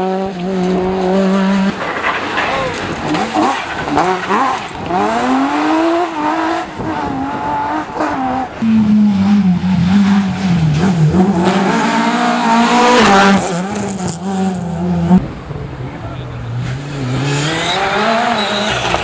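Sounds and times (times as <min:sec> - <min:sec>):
rally car engines revving: 0:00.0 - 0:19.0.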